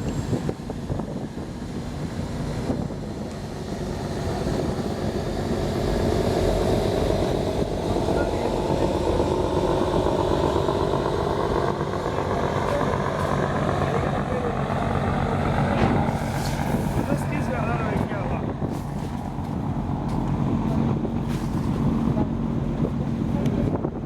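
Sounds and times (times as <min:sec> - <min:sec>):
ship diesel engine throbbing: 0:00.0 - 0:24.0.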